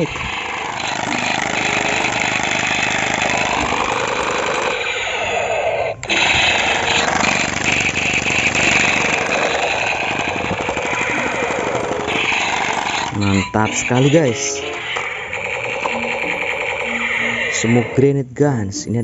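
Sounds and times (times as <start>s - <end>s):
toy rifle electronic rapid-fire: 0.0s - 18.0s.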